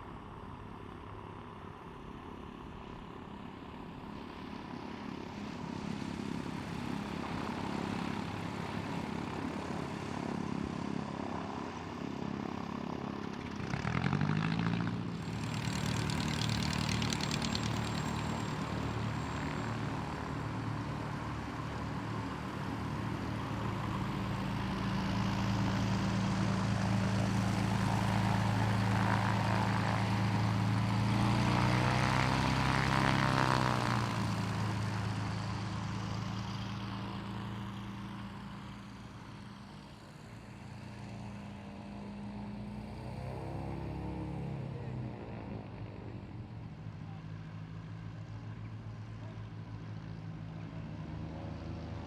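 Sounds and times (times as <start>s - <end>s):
propeller aircraft passing: 0.0s - 52.0s.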